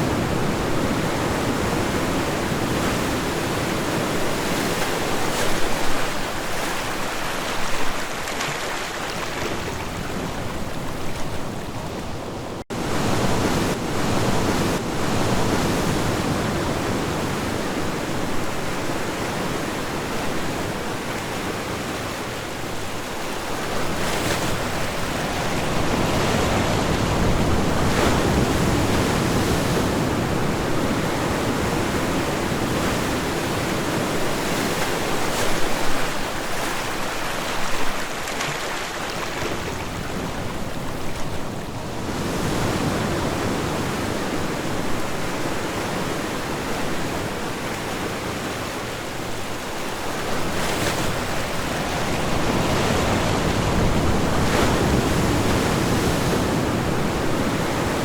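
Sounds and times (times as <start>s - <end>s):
ocean waves washing ashore: 0.0s - 58.0s.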